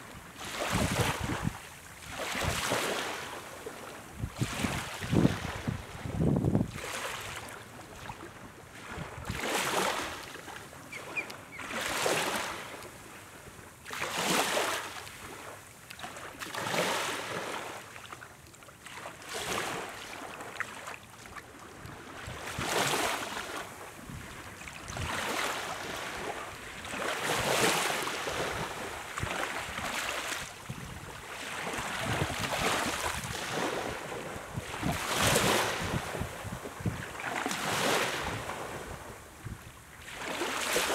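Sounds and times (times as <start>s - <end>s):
small waves washing on sand: 0.0s - 40.9s.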